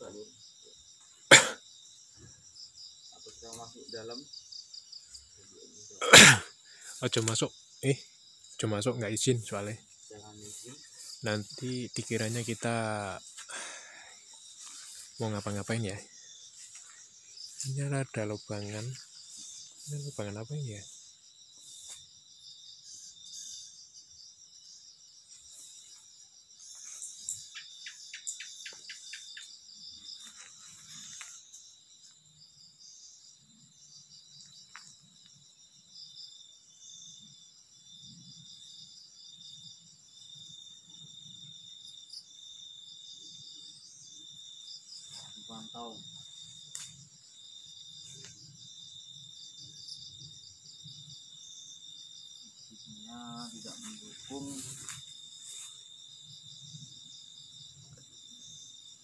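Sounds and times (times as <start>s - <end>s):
crickets and insects trilling: 0.0s - 59.0s.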